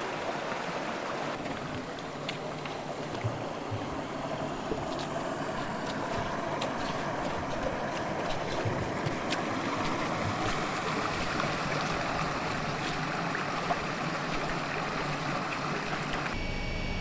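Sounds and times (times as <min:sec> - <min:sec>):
running water rushing: 0:00.0 - 0:16.4.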